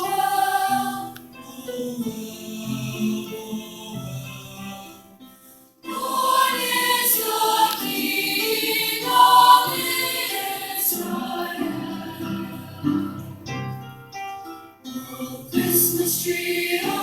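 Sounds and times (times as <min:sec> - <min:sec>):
youth choir singing: 0:00.0 - 0:05.2, 0:05.8 - 0:13.8, 0:14.9 - 0:17.0.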